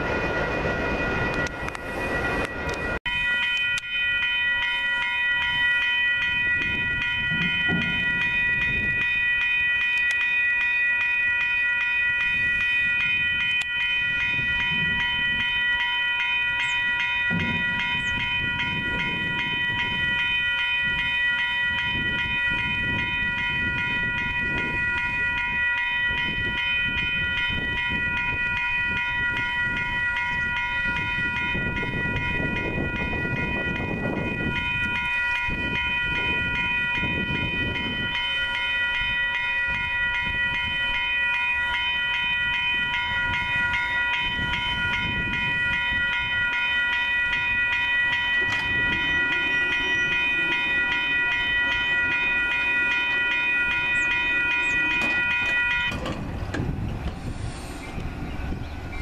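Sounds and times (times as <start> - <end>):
crossing warning bell ringing: 0.0 - 59.0.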